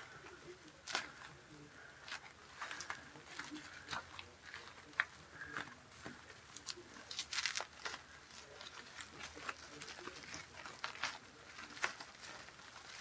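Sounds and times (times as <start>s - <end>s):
bubble wrap crackles: 0.0s - 13.0s
bubble wrap crinkling: 0.0s - 13.0s.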